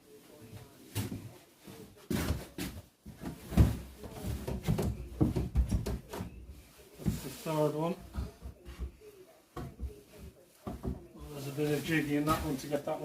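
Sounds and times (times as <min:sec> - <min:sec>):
wood knocking and scraping on wood: 0:02.1 - 0:12.9.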